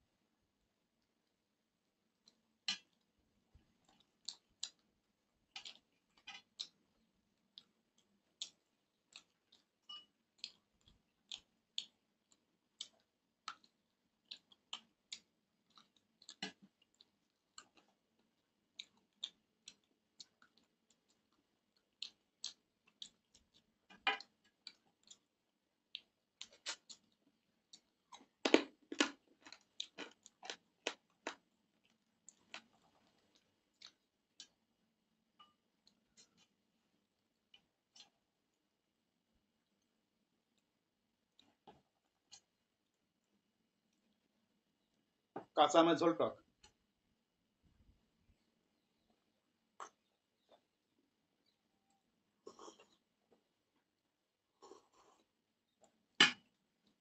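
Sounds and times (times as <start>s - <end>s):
person chewing close to microphone: 2.1s - 38.6s, 39.6s - 45.0s, 48.3s - 51.6s, 52.3s - 57.0s.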